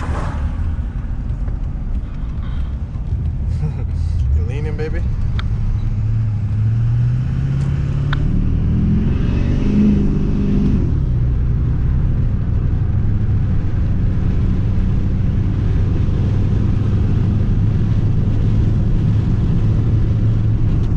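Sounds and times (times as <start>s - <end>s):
road noise: 0.0s - 20.9s
vehicle engine accelerating: 0.0s - 20.9s.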